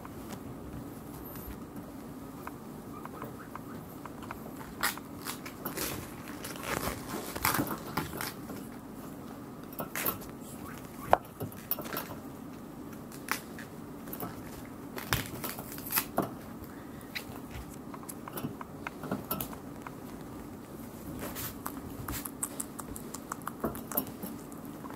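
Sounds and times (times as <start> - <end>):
guinea pigs chewing food: 0.0 - 9.0, 12.9 - 24.9
faint steady low hum: 0.0 - 24.9.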